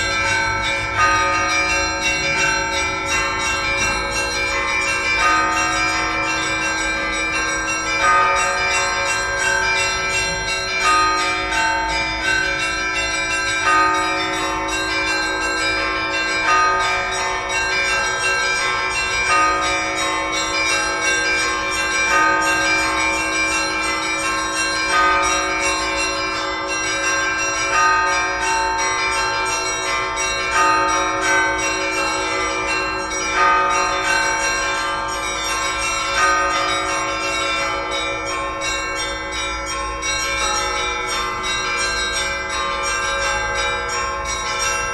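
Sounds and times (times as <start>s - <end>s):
church bells pealing: 0.0s - 44.9s.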